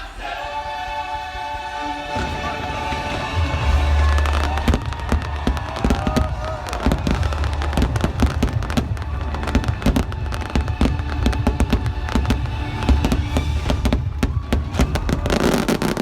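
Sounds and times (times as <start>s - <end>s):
music playing: 0.0s - 16.0s
fireworks banging and crackling: 2.0s - 16.0s
deep rumble: 2.2s - 16.0s.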